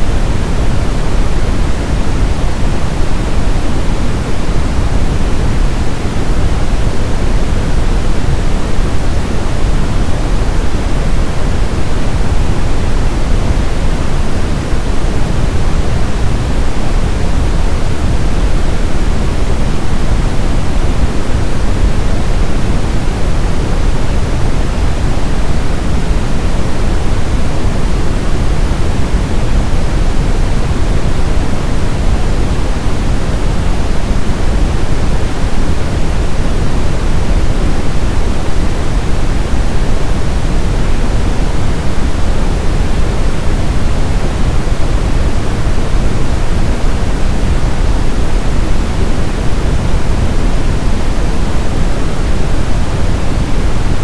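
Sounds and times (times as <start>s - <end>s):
brown noise hiss-rumble: 0.0s - 54.0s.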